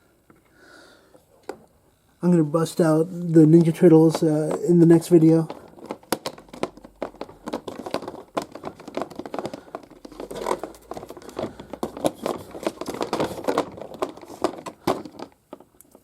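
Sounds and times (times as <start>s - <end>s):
crinkly rustling: 1.3s - 16.0s.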